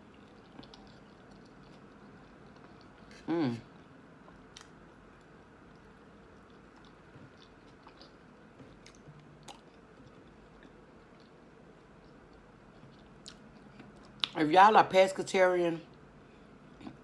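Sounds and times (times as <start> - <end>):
chewing food: 0.0 - 14.4.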